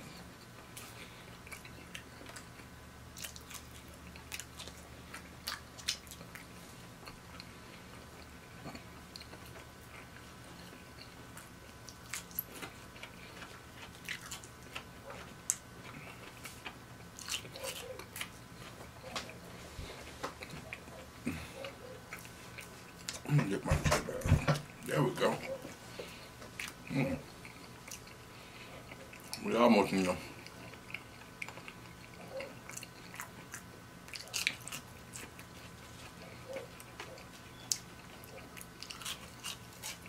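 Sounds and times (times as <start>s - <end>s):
chewing crunchy fried food: 0.0s - 40.0s
faint steady hum: 0.0s - 40.0s.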